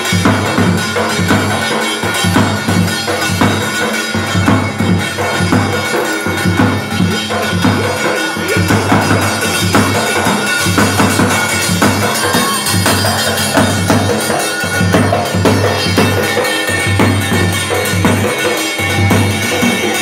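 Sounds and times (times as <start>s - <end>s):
dance music with drum beat: 0.0s - 20.0s.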